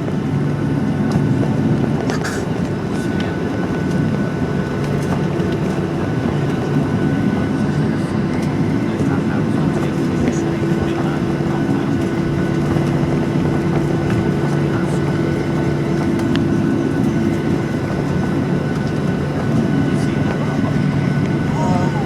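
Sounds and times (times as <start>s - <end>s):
airplane cabin engine hum: 0.0s - 22.0s.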